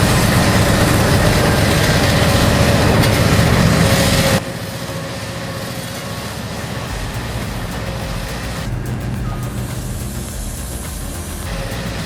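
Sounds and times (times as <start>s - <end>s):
heavy machinery engine running: 0.0s - 12.0s
quieter engine running: 0.0s - 12.0s.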